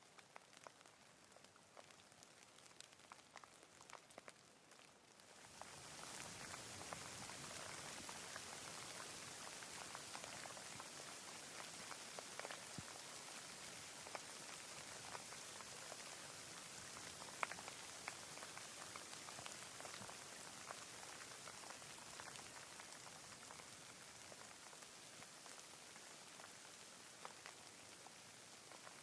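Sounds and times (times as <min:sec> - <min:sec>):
rain hiss: 0:00.0 - 0:29.0
raindrops ticking: 0:00.0 - 0:29.0.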